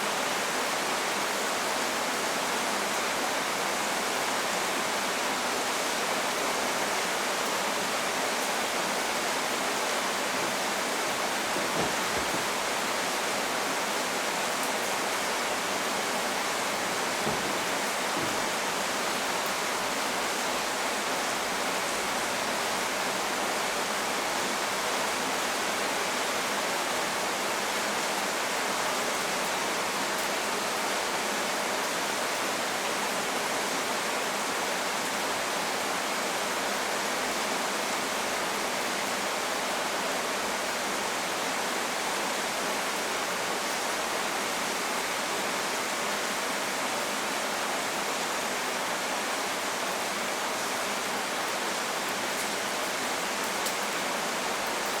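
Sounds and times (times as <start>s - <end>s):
steady rainstorm hiss: 0.0s - 55.0s.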